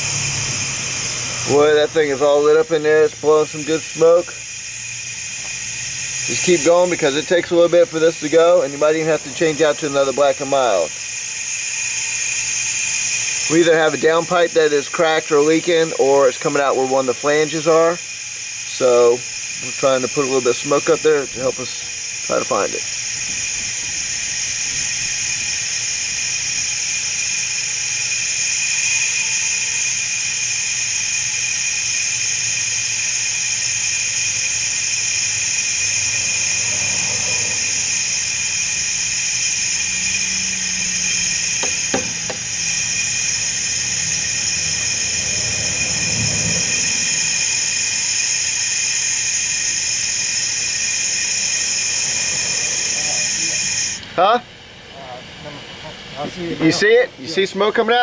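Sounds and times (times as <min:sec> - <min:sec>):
compressed air hissing from nozzle: 0:00.0 - 0:54.3.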